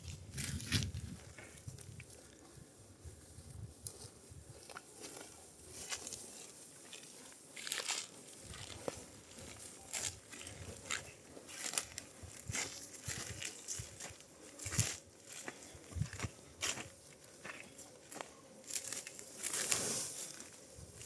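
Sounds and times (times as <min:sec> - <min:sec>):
dry wheat stalks crunching: 0:00.0 - 0:21.0.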